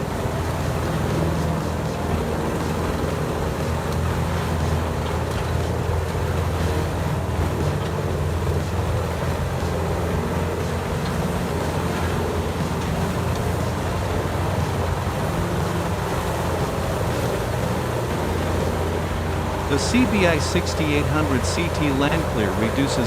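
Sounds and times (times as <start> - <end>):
heavy machine engine droning: 0.0 - 23.0.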